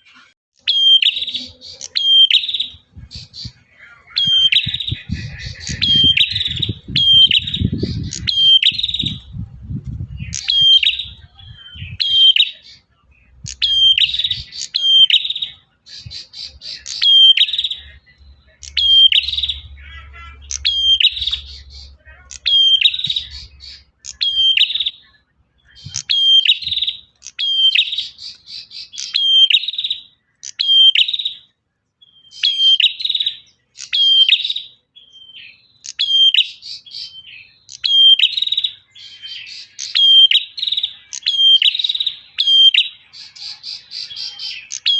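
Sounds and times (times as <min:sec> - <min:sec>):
bird singing sharp call notes: 0:00.0 - 0:09.4, 0:10.0 - 0:44.9.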